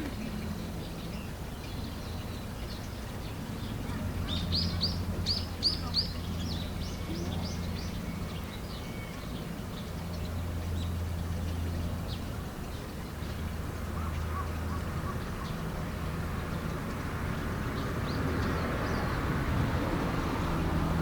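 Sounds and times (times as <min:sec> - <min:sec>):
small birds chirping: 0:00.0 - 0:20.7.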